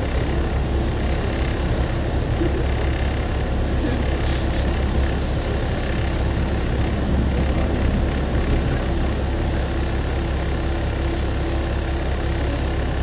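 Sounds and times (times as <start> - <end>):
diesel railcar engine hum: 0.0 - 13.0.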